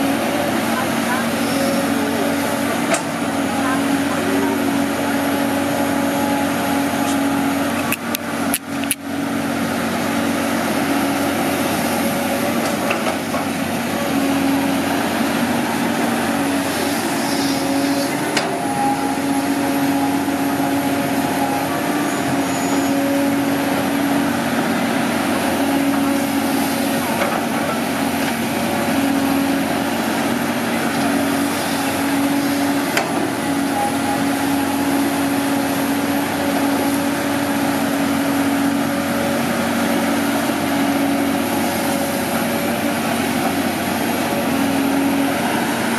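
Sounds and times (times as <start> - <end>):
excavator diesel engine droning: 0.0 - 45.9.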